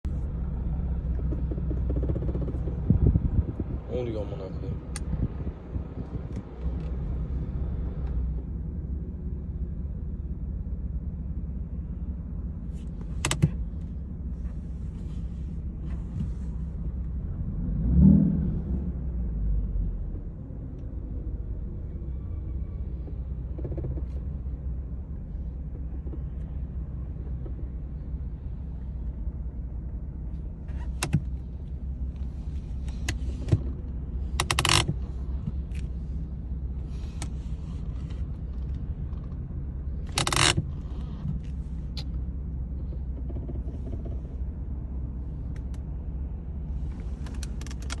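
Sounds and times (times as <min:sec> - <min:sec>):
car engine rumbling: 0:00.0 - 0:48.0.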